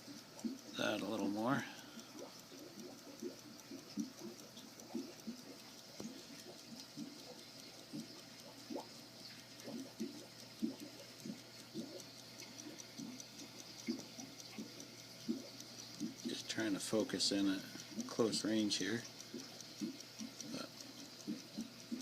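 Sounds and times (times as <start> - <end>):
pocket watch ticking: 0.0 - 22.0.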